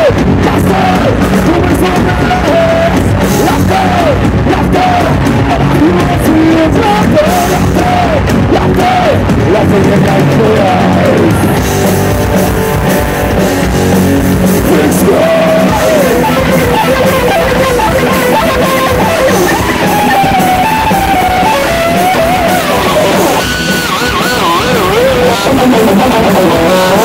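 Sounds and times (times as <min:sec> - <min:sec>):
heavy metal band playing: 0:00.0 - 0:27.0
lead guitar line with vibrato: 0:00.0 - 0:27.0.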